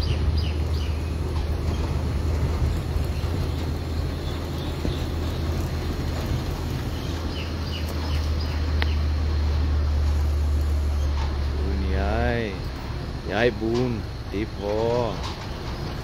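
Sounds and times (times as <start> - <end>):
road noise: 0.0 - 16.0
vehicle engine running: 0.0 - 16.0.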